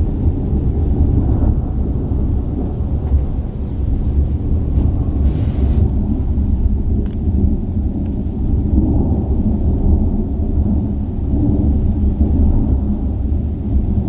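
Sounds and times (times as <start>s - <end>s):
rolling thunder rumble: 0.0s - 14.0s.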